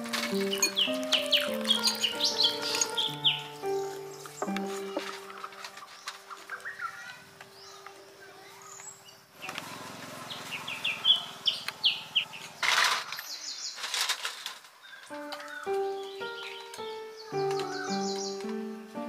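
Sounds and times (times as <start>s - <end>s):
birds chirping: 0.0s - 14.0s, 14.8s - 19.0s.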